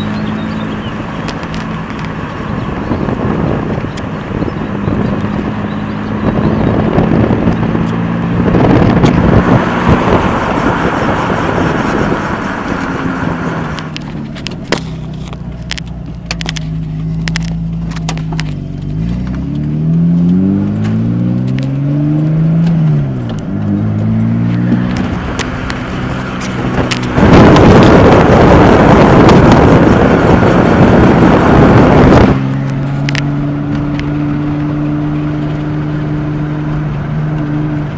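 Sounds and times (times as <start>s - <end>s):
car engine running: 0.0s - 37.9s
wheel bearing rumbling drone: 0.0s - 37.9s.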